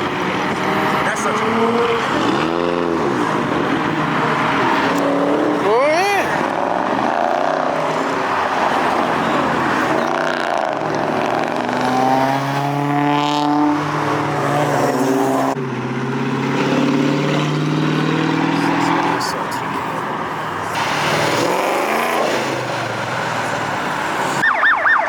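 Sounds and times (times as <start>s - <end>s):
engine revving: 0.0s - 19.6s, 20.7s - 23.8s
cars driving past: 0.0s - 25.0s.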